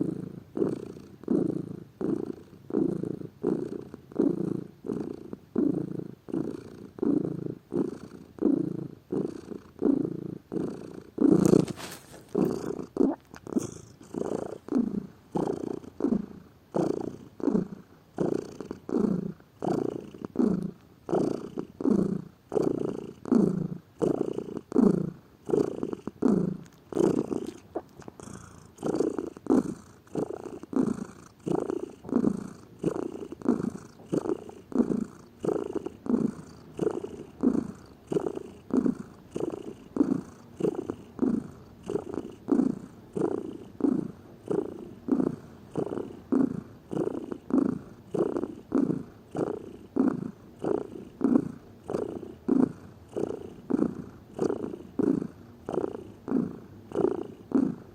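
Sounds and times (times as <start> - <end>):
cat purring: 0.0 - 57.9.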